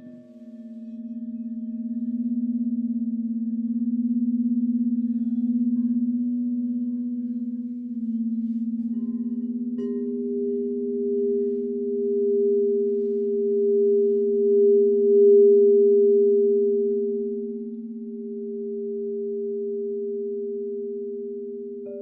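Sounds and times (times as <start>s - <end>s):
higher singing bowl ringing: 0.0s - 22.0s
low singing bowl tone: 0.0s - 22.0s.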